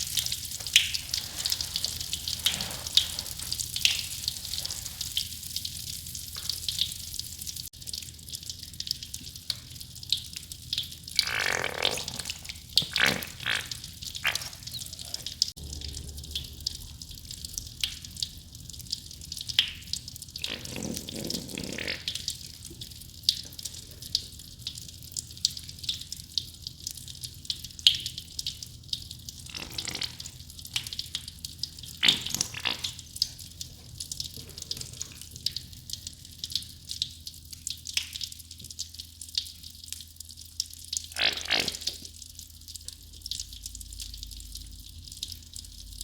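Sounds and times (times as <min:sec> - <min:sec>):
soap fizzing and crackling: 0:00.0 - 0:45.9
wet squelches: 0:00.0 - 0:46.0.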